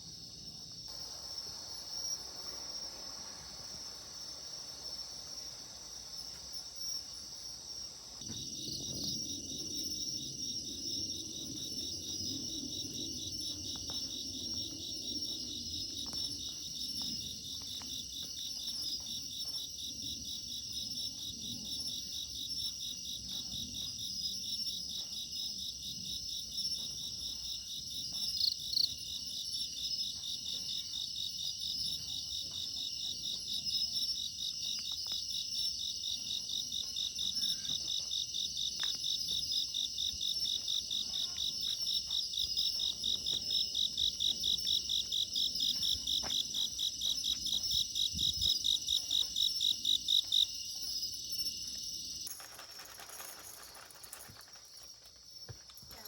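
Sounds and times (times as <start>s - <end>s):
insects chirring in shrill trills: 0.0s - 56.0s.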